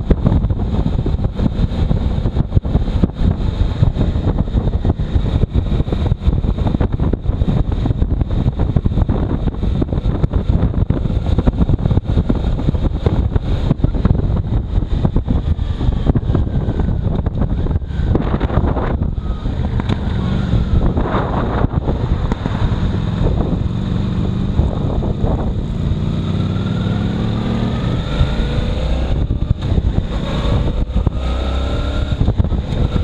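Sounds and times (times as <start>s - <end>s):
motorcycle running: 0.0s - 33.0s
wind buffeting microphone: 0.0s - 33.0s.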